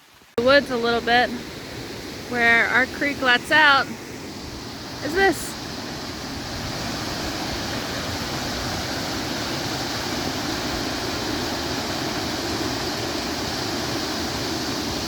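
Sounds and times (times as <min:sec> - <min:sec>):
creek rushing: 0:00.0 - 0:15.0.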